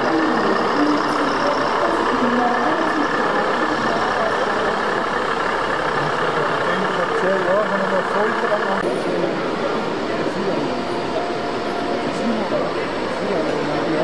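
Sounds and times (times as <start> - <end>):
many voices chattering: 0.0 - 14.0
model truck engines: 0.0 - 14.0.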